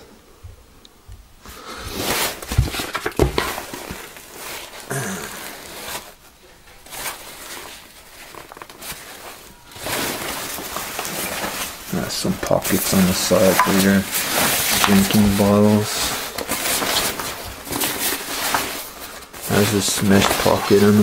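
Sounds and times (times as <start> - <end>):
backpack fabric rustling: 1.8 - 21.0.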